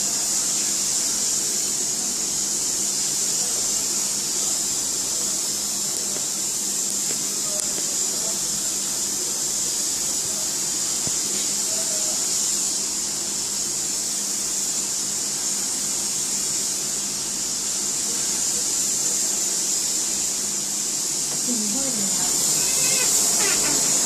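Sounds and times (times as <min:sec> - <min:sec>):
high-pitched hiss of rushing air: 0:00.0 - 0:24.0.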